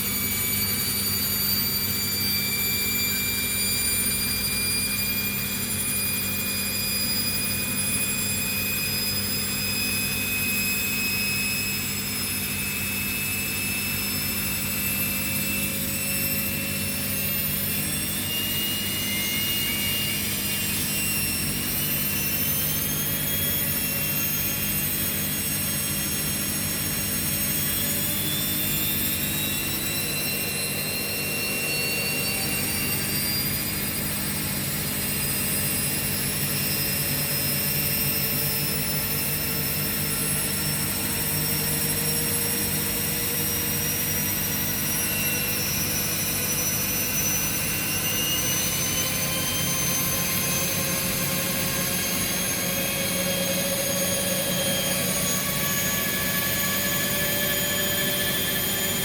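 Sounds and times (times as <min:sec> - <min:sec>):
motor whines climbing in pitch: 0:00.0 - 0:59.0
washing machines spinning: 0:00.0 - 0:59.0.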